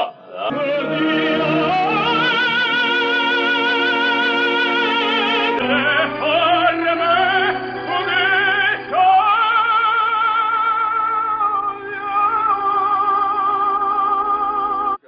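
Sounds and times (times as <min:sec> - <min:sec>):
operatic voice singing: 0:00.0 - 0:15.0.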